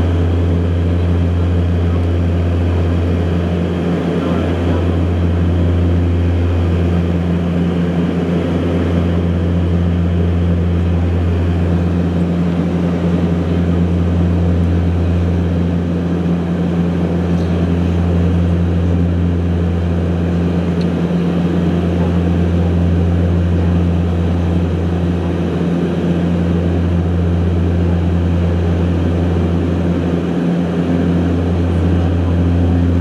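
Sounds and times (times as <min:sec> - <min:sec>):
low propeller drone: 0:00.0 - 0:33.0.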